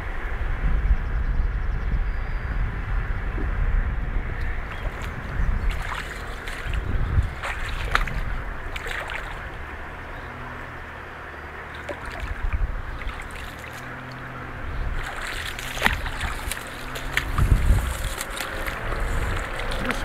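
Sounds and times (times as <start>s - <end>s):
distant vehicle engine running: 0.0s - 20.0s
wind buffeting microphone: 0.0s - 20.0s.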